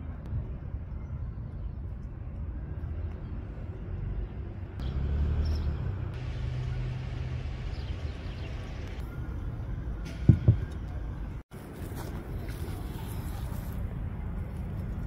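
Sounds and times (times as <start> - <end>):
low street noise: 0.0 - 15.0
vehicle engine rumbling: 2.2 - 15.0.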